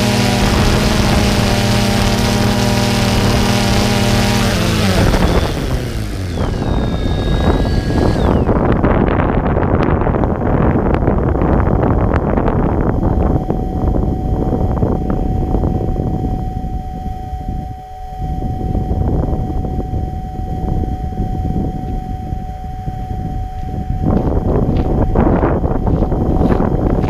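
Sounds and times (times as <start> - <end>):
wind buffeting the microphone: 0.0 - 27.0.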